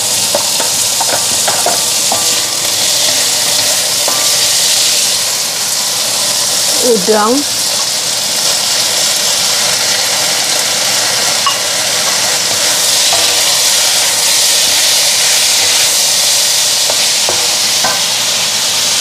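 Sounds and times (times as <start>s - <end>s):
shrimp sizzling in a wok: 0.0s - 19.0s.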